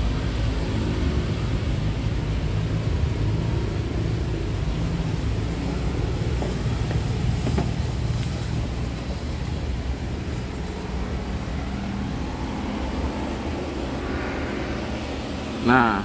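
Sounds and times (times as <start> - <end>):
low vehicle hum: 0.0 - 16.0.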